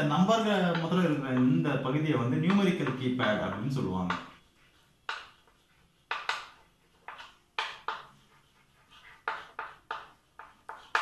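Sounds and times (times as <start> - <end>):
chalk scratching on blackboard: 0.0 - 11.0.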